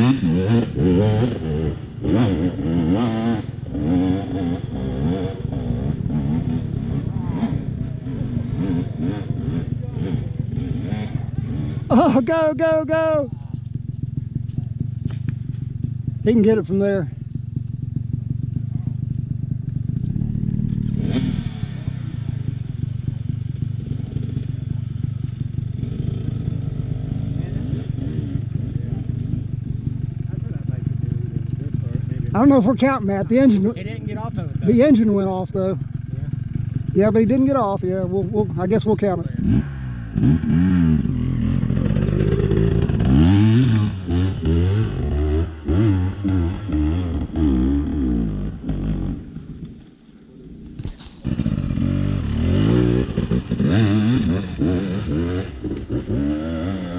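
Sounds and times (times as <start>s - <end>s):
dirt bike engine labouring: 0.0s - 56.9s.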